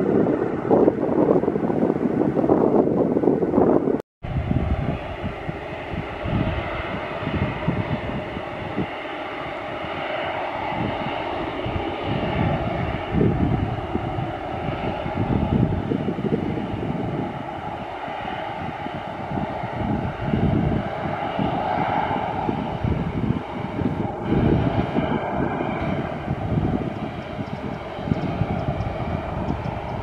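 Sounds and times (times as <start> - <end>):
jet engines whining: 0.0 - 30.0
wind buffeting microphone: 0.0 - 30.0.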